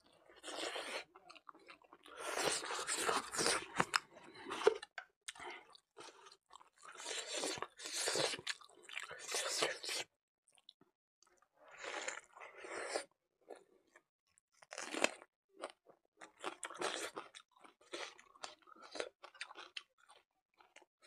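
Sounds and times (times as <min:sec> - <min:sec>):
person chewing and crunching food: 0:00.0 - 0:20.9.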